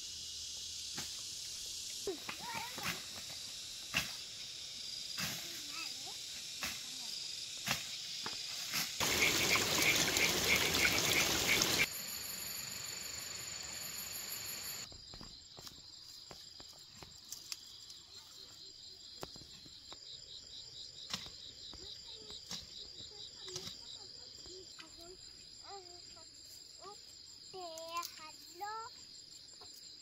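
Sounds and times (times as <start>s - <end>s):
lower pulsing insect trill: 0.0s - 30.0s
very high insect trill: 0.0s - 30.0s.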